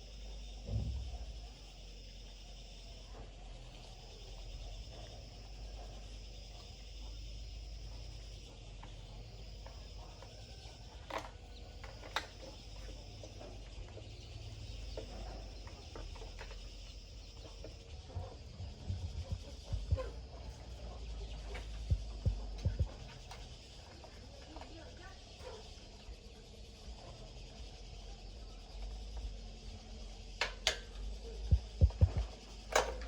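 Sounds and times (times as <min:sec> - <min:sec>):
insect chirring: 0:00.0 - 0:33.0.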